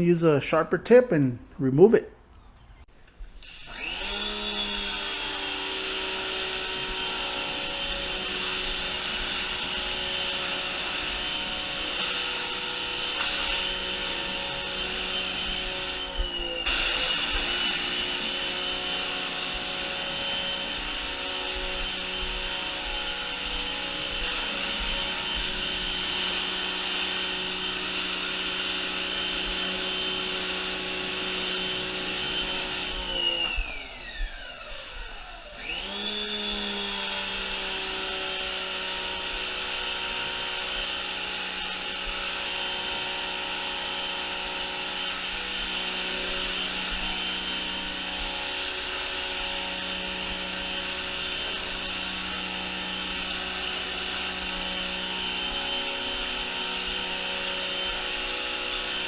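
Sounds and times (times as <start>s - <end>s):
electric pressure washer running: 3.4s - 59.0s.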